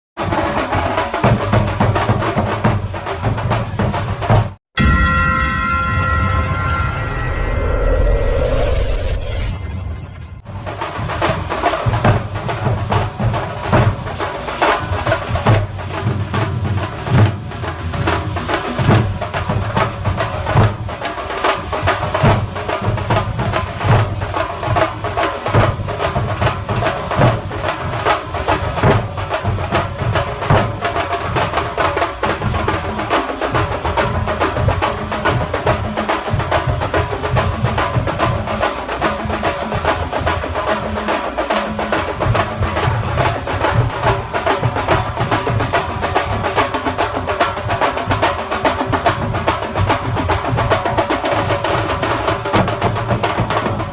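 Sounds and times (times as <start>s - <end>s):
fast percussion ensemble drumming: 0.2s - 6.3s, 10.4s - 53.9s
high hiss: 10.5s - 53.8s.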